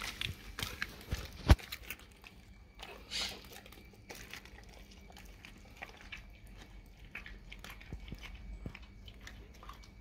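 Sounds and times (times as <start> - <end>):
dog chewing: 0.0 - 10.0.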